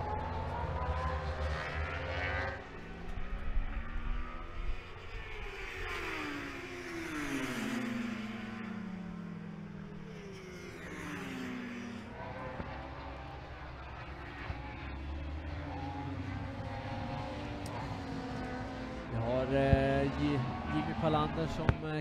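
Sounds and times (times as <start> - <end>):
racing motorbikes passing: 0.0 - 22.0.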